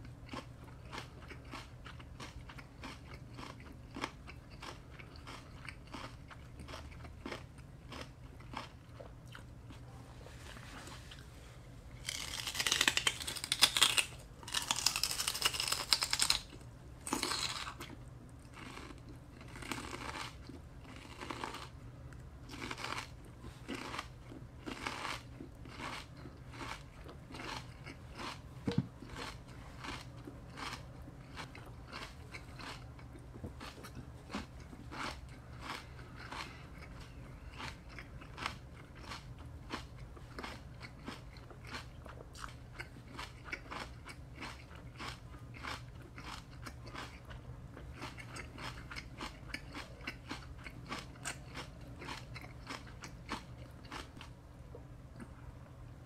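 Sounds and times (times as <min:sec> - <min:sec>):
celery crunching: 0:00.3 - 0:11.3, 0:11.9 - 0:47.4.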